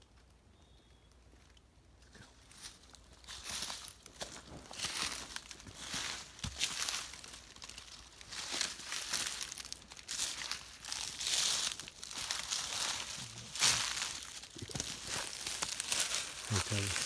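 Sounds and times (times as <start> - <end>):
footsteps crunching dry leaves: 2.5 - 17.0.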